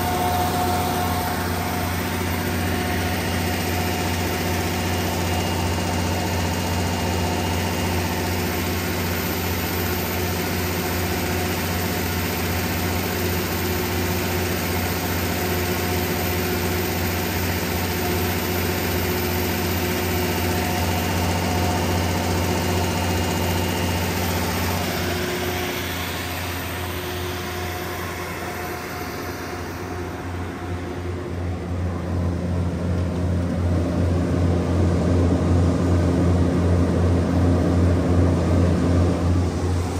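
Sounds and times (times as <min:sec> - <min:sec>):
diesel generator droning: 0:00.0 - 0:39.9.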